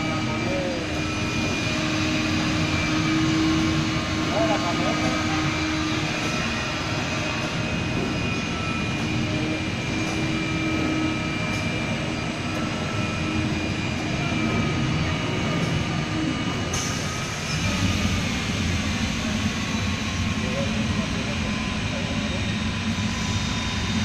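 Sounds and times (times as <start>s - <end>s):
cutting machine droning: 0.0s - 24.0s
faint whining tones: 0.0s - 24.0s.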